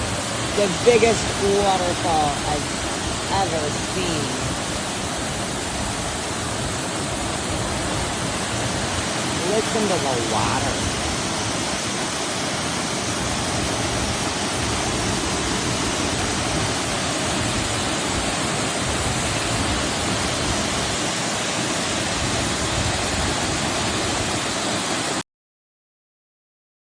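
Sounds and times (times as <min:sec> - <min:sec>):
waterfall rushing: 0:00.0 - 0:25.2.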